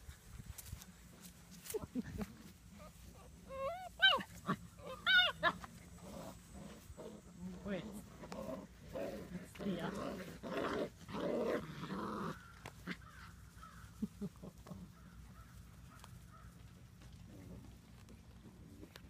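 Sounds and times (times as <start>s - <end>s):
puppies growling in play: 2.0s - 19.0s.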